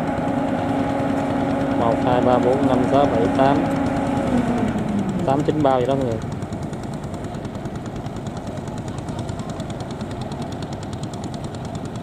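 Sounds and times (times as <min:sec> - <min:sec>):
harvester engine running: 0:00.0 - 0:12.0.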